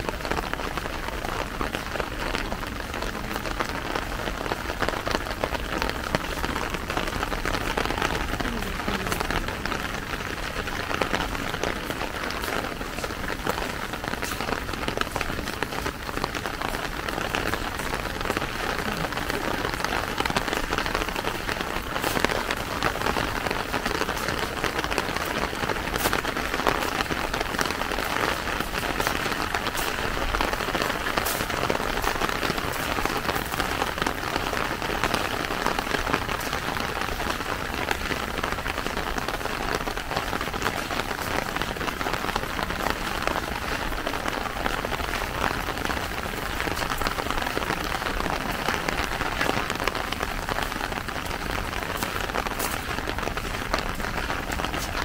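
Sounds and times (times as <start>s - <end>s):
rain drop ticks: 0.0s - 55.0s
steady rain hiss: 0.0s - 55.0s.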